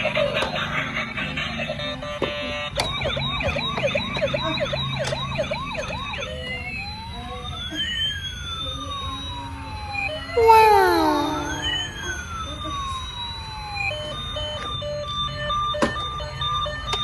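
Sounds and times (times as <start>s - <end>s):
toy siren yelp and wail: 0.0s - 17.0s.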